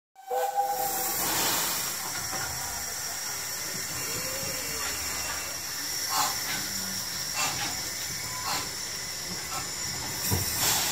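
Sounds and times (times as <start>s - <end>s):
steam hissing: 0.2s - 10.9s.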